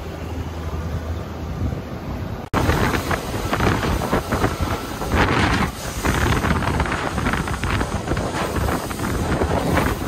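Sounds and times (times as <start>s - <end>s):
wind buffeting microphone: 1.5s - 10.0s.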